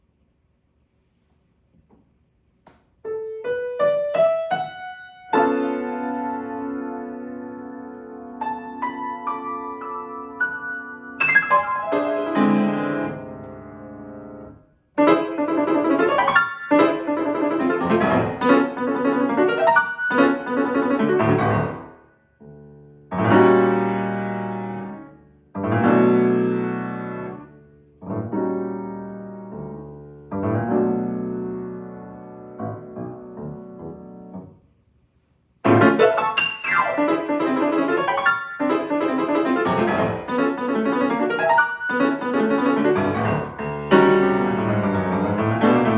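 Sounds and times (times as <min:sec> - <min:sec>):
solo piano playing: 0:03.0 - 0:34.6, 0:35.6 - 0:45.9.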